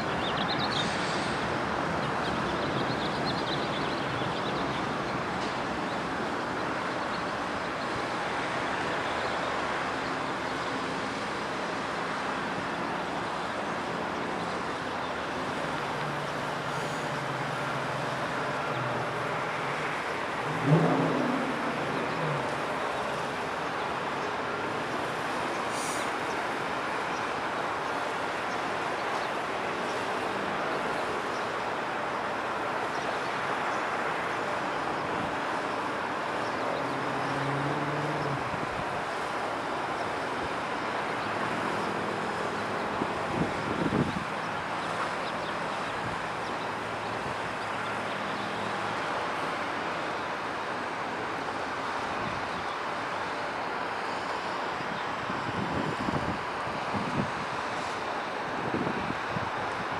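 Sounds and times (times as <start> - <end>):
distant jet engine rumble: 0.0 - 59.9.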